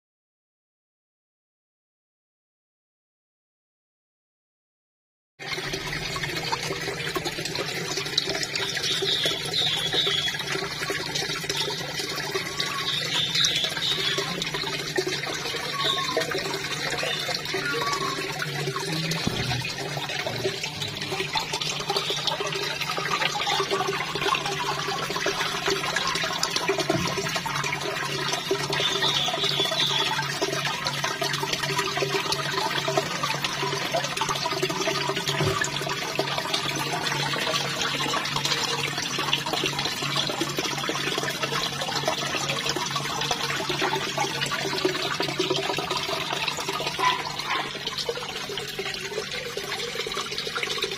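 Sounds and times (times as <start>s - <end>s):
water pouring into pond: 5.4s - 50.9s.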